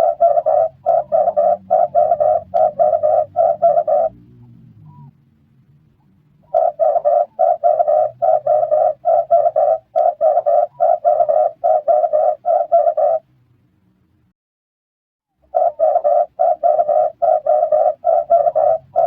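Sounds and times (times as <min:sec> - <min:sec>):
dove cooing: 0:00.0 - 0:05.1, 0:06.4 - 0:13.3, 0:15.4 - 0:19.0.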